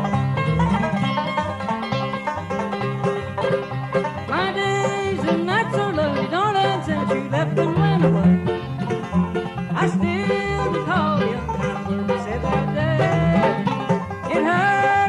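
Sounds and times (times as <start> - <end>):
banjo: 0.0 - 15.0
bluegrass band playing: 0.0 - 15.0
sliding lead melody: 0.0 - 15.0
upright bass line: 0.0 - 15.0.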